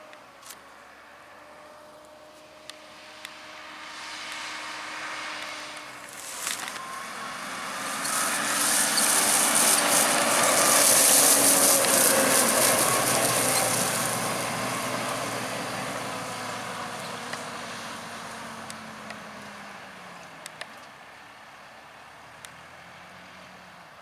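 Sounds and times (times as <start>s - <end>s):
telehandler engine driving past: 0.0s - 20.9s.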